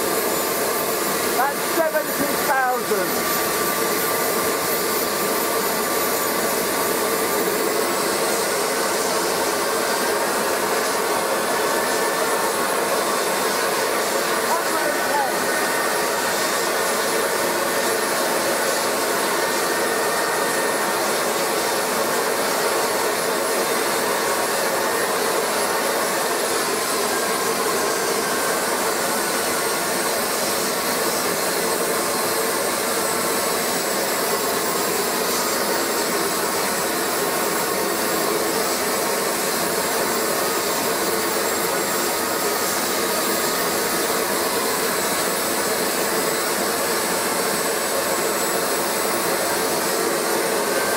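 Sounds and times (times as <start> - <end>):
jet engine rush and whine: 0.0 - 50.9.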